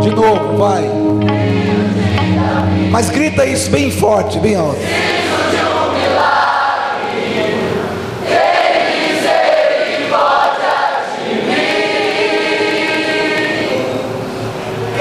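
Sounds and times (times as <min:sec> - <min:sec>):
congregation singing: 0:00.0 - 0:15.0.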